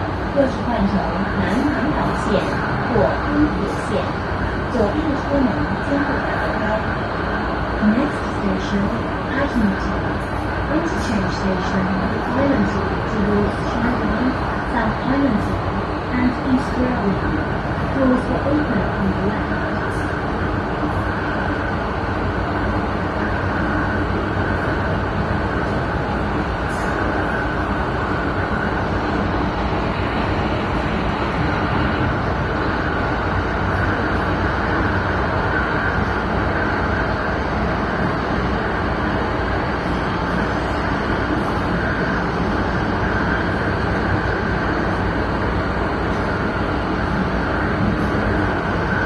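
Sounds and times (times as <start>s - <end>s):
train wheels and motors rumbling: 0.0s - 49.0s.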